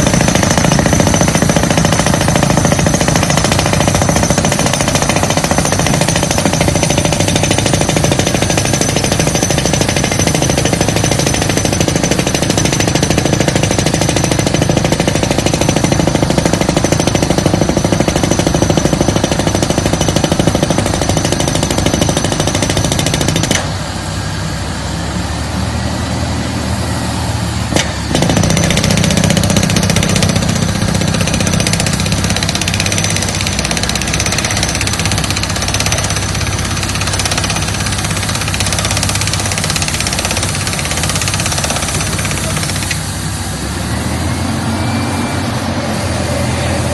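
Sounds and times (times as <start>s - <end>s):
drill rig hammering: 0.0s - 23.8s, 27.7s - 43.2s
drill rig engine running: 0.0s - 46.9s.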